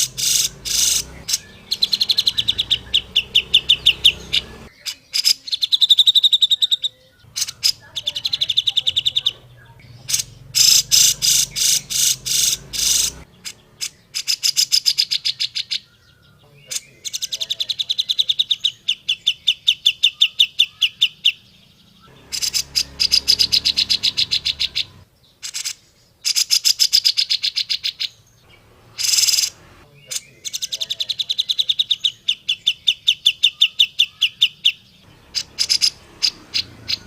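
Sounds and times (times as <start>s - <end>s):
bird calling rapid repeated notes: 0.0s - 16.1s, 22.1s - 37.0s.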